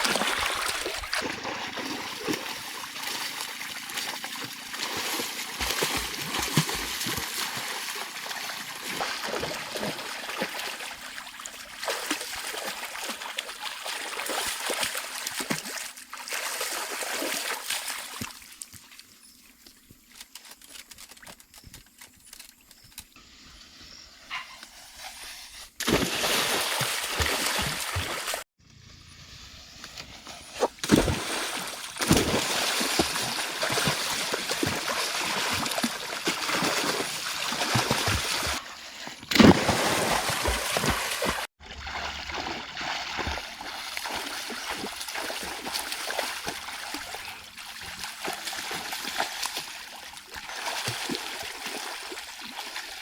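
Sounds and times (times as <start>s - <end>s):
water splashing and trickling: 0.0s - 21.5s, 25.8s - 28.5s, 30.2s - 53.0s.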